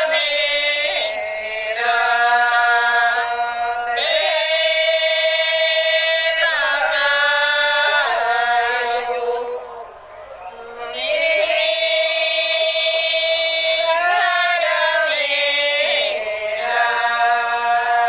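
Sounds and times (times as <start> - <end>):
women chanting a prayer: 0.0 - 18.0.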